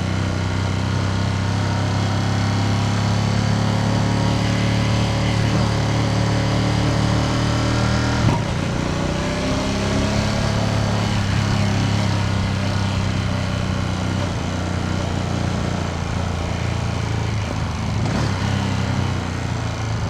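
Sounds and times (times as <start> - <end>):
motorcycle engine running: 0.0 - 20.0
road noise: 0.3 - 20.0.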